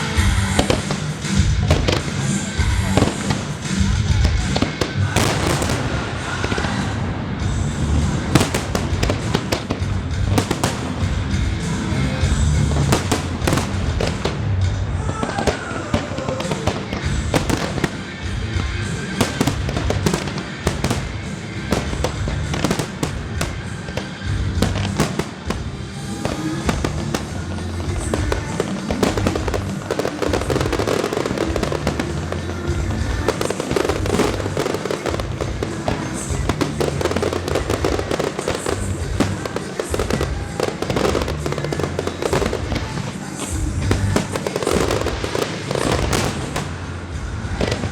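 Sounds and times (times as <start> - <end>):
fireworks bursting and crackling: 0.0 - 47.9
music: 0.0 - 47.9.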